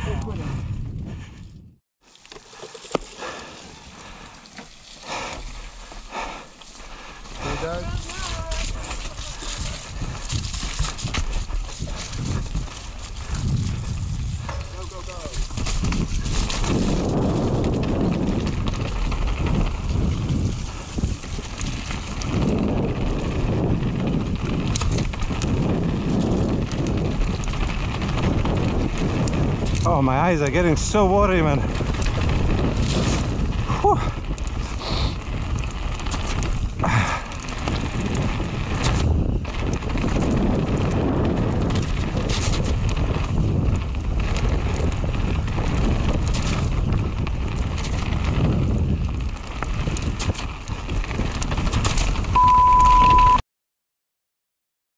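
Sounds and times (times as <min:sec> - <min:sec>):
wind buffeting microphone: 0:00.0 - 0:01.8, 0:03.2 - 0:53.4
tyres rumbling on gravel: 0:02.0 - 0:53.4
bike clicks and rattles: 0:02.1 - 0:52.4.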